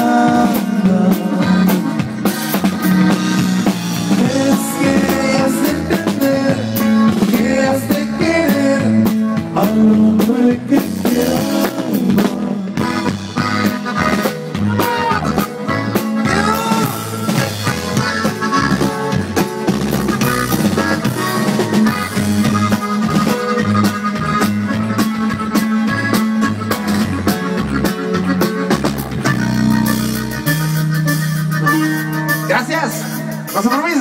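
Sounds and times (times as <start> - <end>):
drums: 0.0 - 34.0
lead melody: 0.0 - 34.0
repeating bass line: 0.0 - 34.0.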